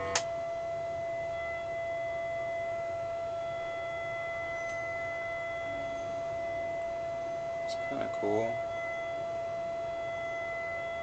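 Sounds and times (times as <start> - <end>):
synthesizer steady note: 0.0 - 11.0.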